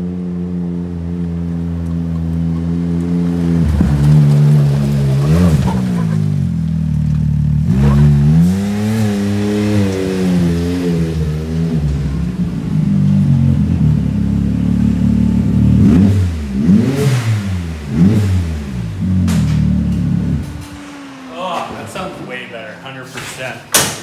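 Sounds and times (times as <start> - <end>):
engine idling and revving: 0.0 - 23.8.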